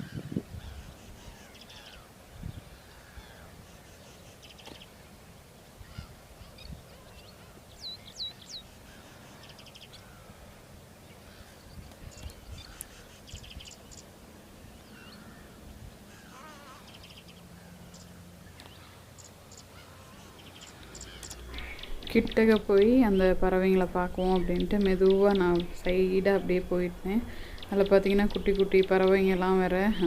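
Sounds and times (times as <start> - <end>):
wild birds calling: 0.0 - 30.0.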